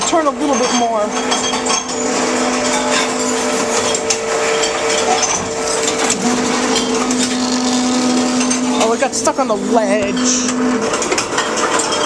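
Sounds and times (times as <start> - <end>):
bottle rattling against rollers: 0.0 - 12.0
roller motor humming: 1.0 - 12.0.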